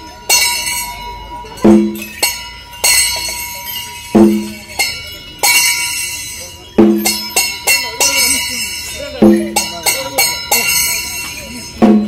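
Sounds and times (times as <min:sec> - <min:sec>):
bright metal bells clanging: 0:00.0 - 0:12.0.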